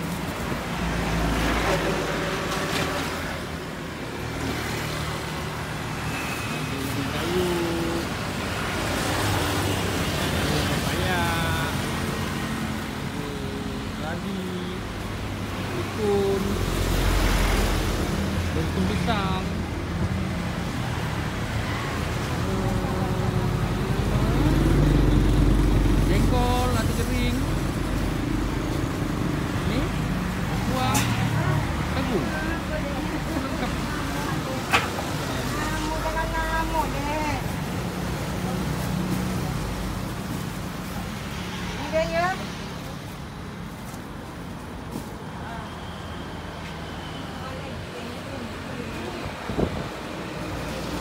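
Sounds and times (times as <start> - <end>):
vehicle engine rumbling: 0.0 - 46.5
traffic hum: 0.0 - 51.0.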